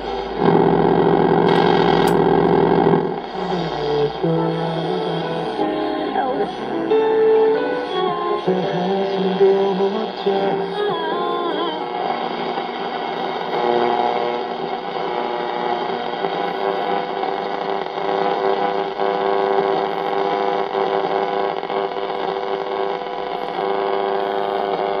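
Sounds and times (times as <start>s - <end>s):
radio buzzing hum with static: 0.0s - 25.0s.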